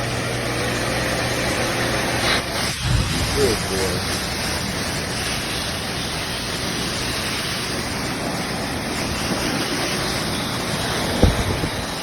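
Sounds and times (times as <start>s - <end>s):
dog dryer blowing air: 0.0s - 12.0s.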